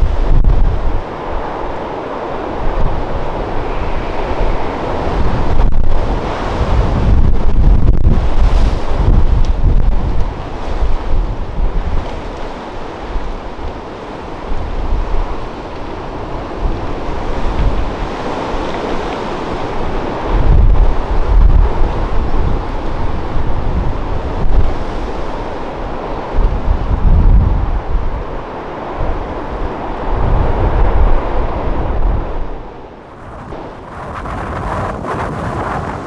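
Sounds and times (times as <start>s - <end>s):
rough sea surf breaking: 0.0s - 36.0s
wind buffeting microphone: 0.0s - 36.0s.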